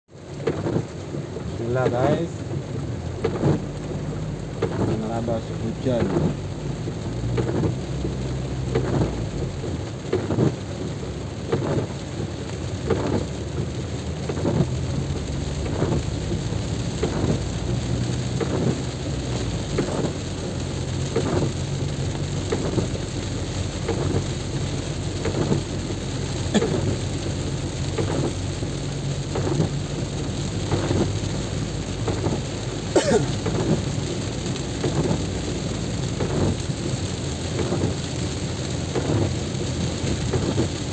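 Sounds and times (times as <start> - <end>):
heavy rain: 0.1 - 40.9
road noise: 0.1 - 40.9.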